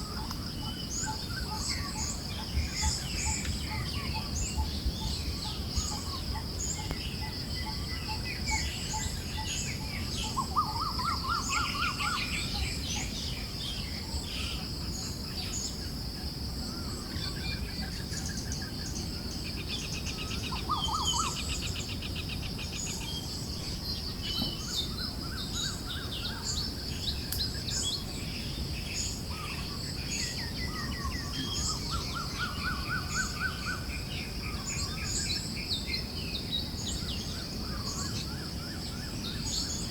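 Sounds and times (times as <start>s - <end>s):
birds chirping and trilling: 0.0s - 16.0s, 16.6s - 39.9s.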